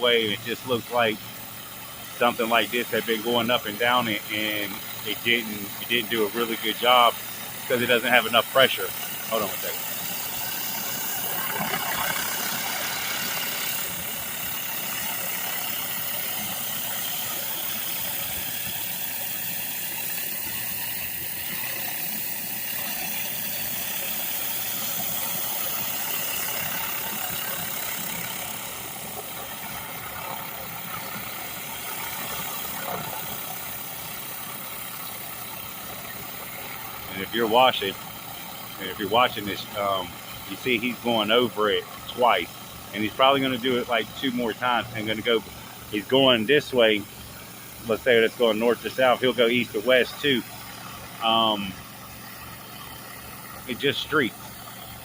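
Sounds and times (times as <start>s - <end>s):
pressure washer engine drone: 0.0s - 55.0s
water spray hissing on concrete: 0.0s - 55.0s.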